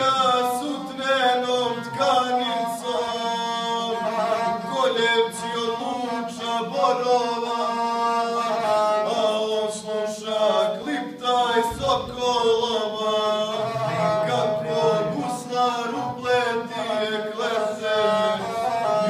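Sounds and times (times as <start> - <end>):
bowed single-string fiddle: 0.0 - 19.0
man singing in chanting voice: 0.0 - 19.0.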